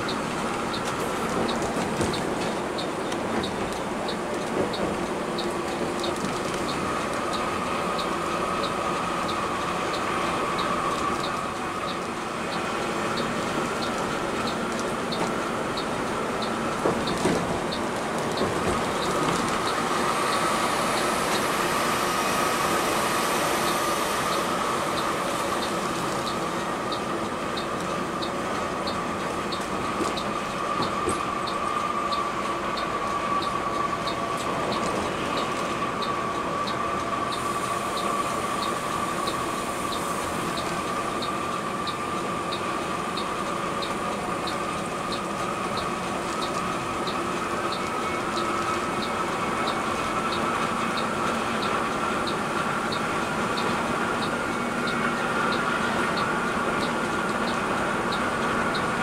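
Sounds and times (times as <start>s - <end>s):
coach engine and road drone: 0.0s - 59.0s.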